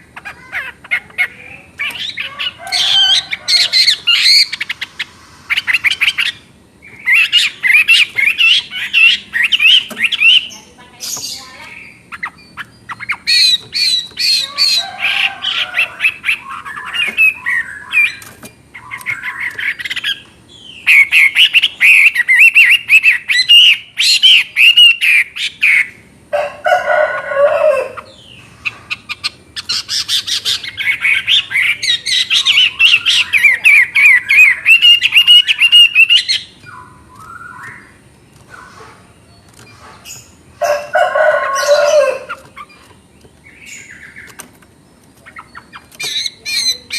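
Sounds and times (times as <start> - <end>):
harsh bird call: 0.0 - 42.9.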